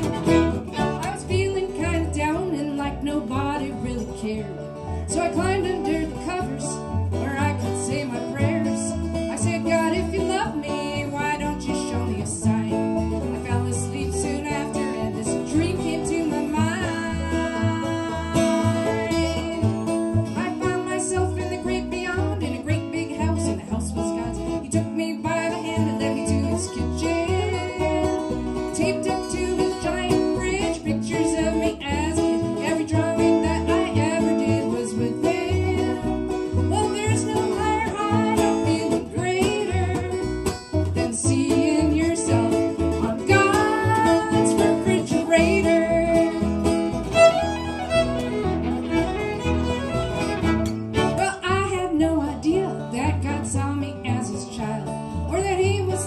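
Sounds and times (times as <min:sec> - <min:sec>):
fiddle melody: 0:00.0 - 0:56.0
strummed acoustic guitar: 0:00.0 - 0:56.0.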